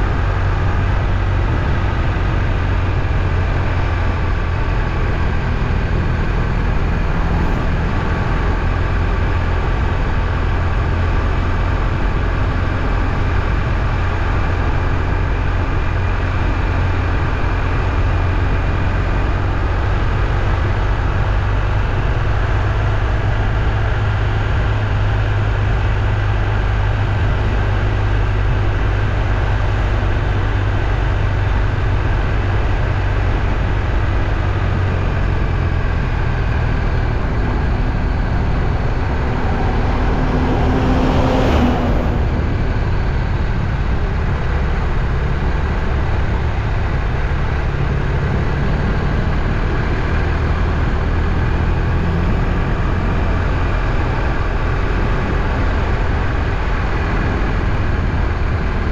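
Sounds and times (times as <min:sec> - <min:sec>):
moving vehicle rumble: 0:00.0 - 0:58.9.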